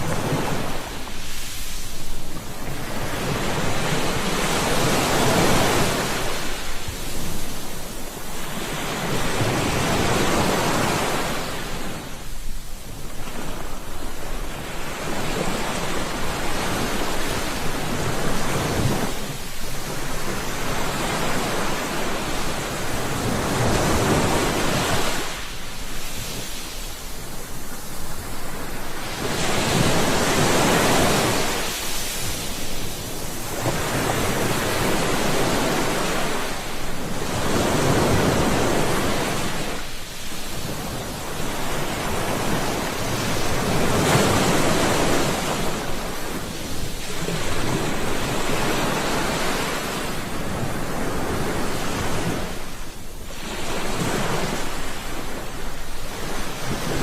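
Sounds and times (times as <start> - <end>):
sea waves surging: 0.0 - 57.0.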